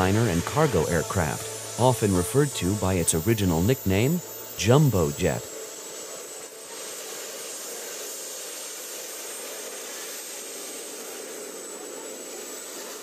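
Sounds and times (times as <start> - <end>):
model jet turbines running: 0.0 - 13.0.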